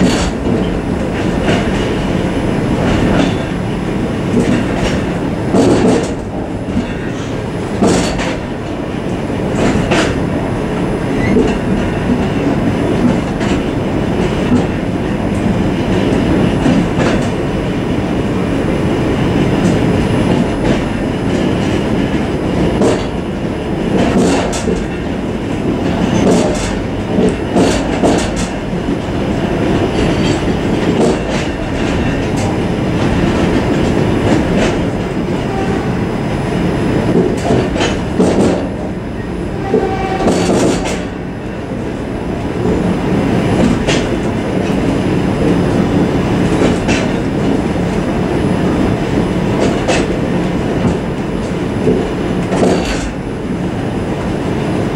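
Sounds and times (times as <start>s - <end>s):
wheels clacking over rail joints: 0.0s - 17.6s, 19.3s - 35.9s, 37.0s - 53.3s
train rumble: 0.0s - 54.9s.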